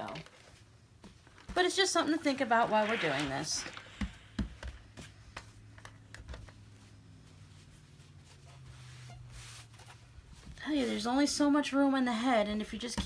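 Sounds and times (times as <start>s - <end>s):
fabric rustling: 0.1s - 5.7s, 6.4s - 11.6s.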